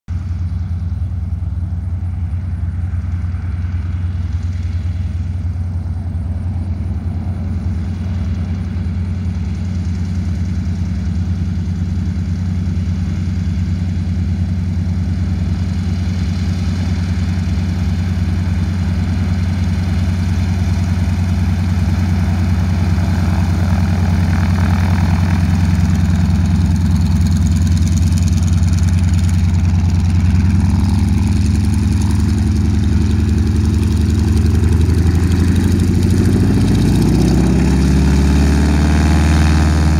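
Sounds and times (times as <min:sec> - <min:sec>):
radial aircraft engine running: 0:00.1 - 0:39.9.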